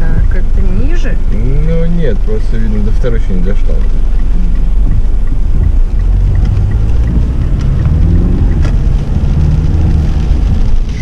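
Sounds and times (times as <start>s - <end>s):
engine and road rumble: 0.0s - 11.0s
rain tapping on car body: 0.0s - 11.0s.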